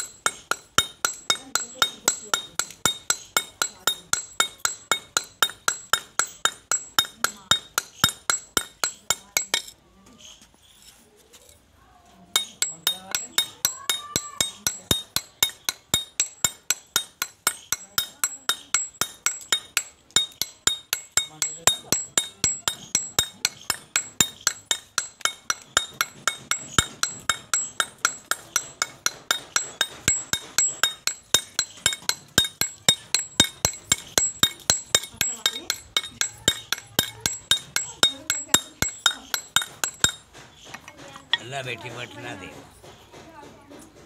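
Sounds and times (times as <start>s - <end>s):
hammer tapping chisel on stone: 0.0s - 9.8s, 12.3s - 44.0s.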